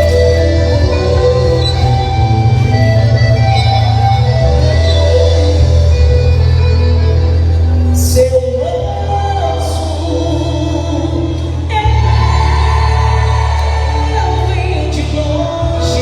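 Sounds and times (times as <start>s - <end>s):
music with singing: 0.0s - 16.0s.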